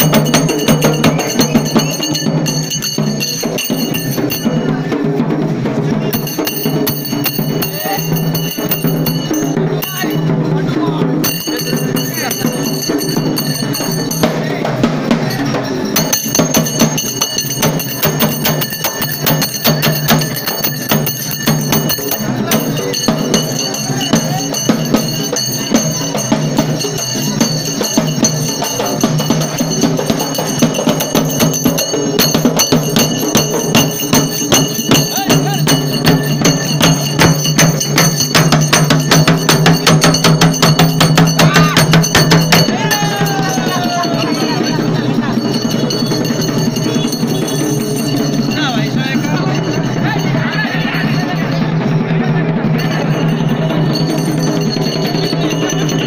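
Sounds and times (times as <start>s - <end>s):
fast steady drumming: 0.0s - 56.0s
street procession music: 0.0s - 56.0s.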